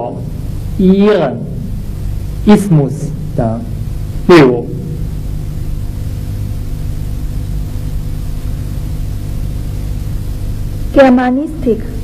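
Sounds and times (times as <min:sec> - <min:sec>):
low hum: 0:00.0 - 0:12.0
steady hiss: 0:00.0 - 0:12.0.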